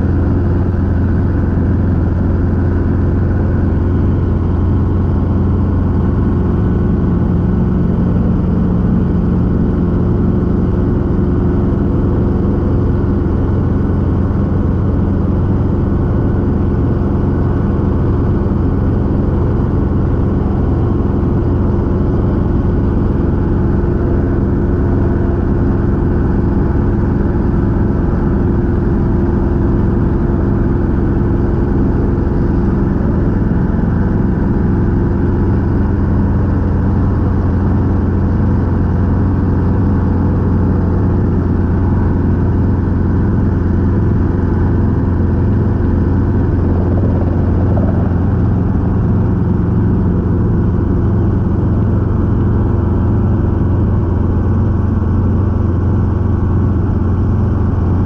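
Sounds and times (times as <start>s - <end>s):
helicopter drone: 0.0s - 58.0s.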